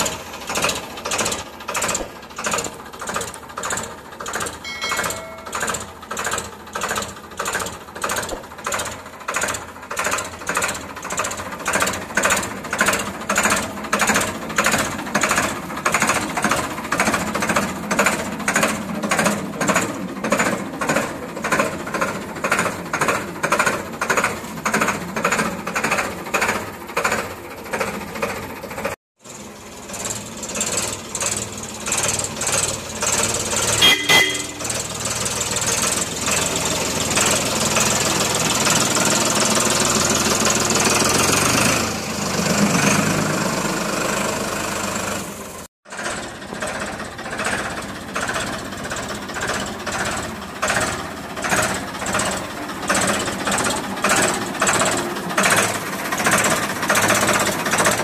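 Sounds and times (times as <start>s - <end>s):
tractor engine pulsing: 0.0s - 58.0s.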